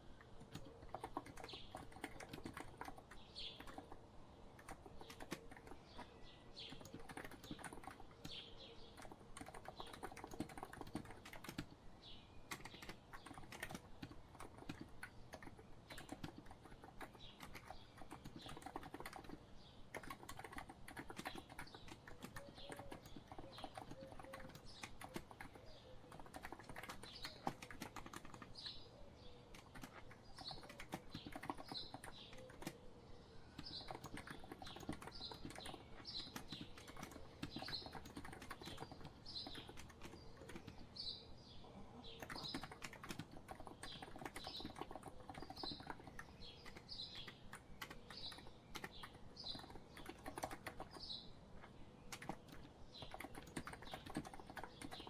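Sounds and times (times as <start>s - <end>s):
bird chirping: 0.0s - 55.0s
keyboard typing: 0.2s - 4.0s, 4.6s - 11.8s, 12.5s - 28.7s, 29.5s - 32.8s, 33.6s - 41.0s, 42.1s - 55.0s.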